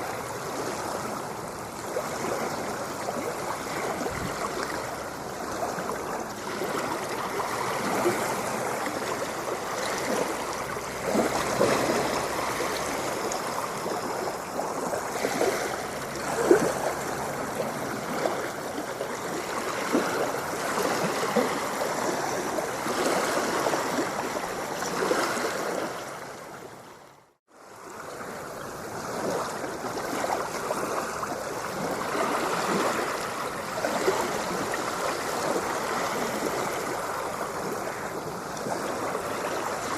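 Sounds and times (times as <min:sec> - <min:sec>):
water running and bubbling: 0:00.0 - 0:26.2, 0:27.6 - 0:39.9.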